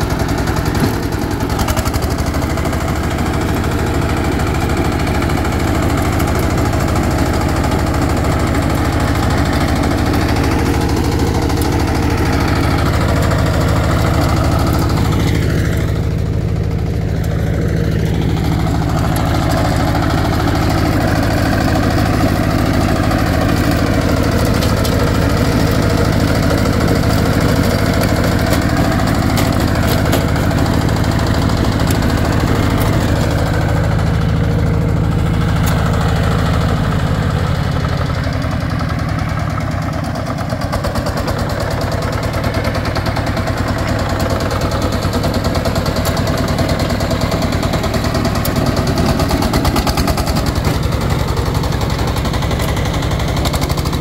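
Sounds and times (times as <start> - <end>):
diesel engine running: 0.0 - 54.0
tiller churning soil: 0.0 - 54.0.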